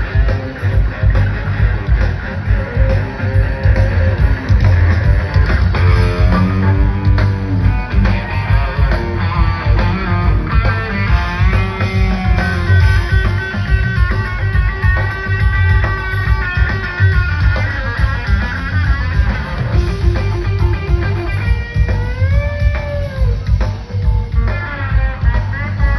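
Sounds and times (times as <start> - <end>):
bass guitar: 0.0 - 25.9
drums: 0.0 - 25.9
electric guitar lead: 0.0 - 25.9.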